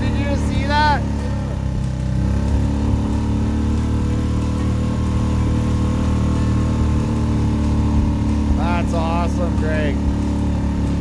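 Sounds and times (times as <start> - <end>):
outboard motor humming: 0.0 - 11.0.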